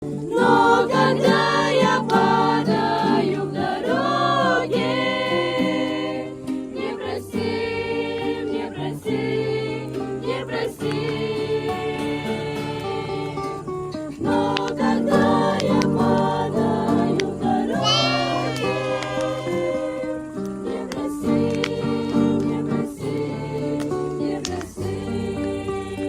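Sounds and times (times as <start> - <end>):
group singing a religious song: 0.0 - 26.0.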